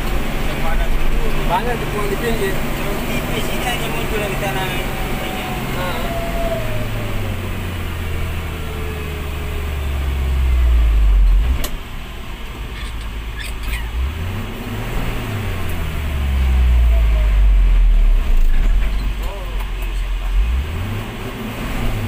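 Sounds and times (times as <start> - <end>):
truck engine from inside cab: 0.0 - 22.0.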